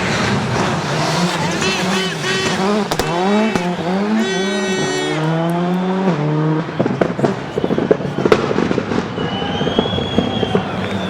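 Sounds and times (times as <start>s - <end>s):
exhaust pops and bangs: 0.0s - 11.0s
rally car engine revving: 0.0s - 11.0s.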